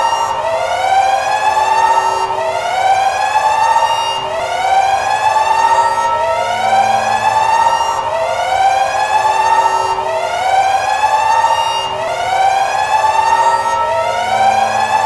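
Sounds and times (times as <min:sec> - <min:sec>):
siren whooping: 0:00.0 - 0:15.0.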